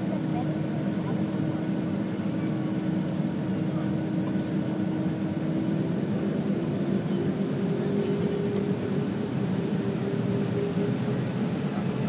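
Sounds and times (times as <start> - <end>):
engine hum: 0.0 - 12.0
jet engines droning in cabin: 0.0 - 12.0.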